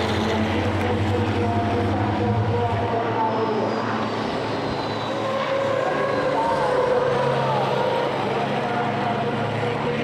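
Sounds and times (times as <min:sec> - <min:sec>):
deep low engine rumble: 0:00.0 - 0:10.0
racing truck diesel engines: 0:00.0 - 0:10.0.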